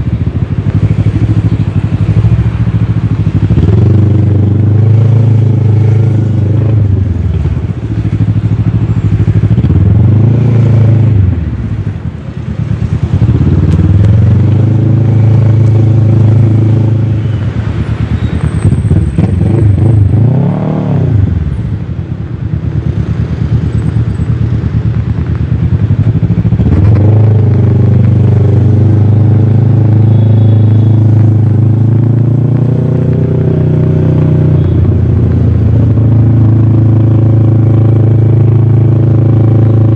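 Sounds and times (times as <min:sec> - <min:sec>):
motorcycle engine revving while riding: 0:00.0 - 0:21.6, 0:22.4 - 0:39.9.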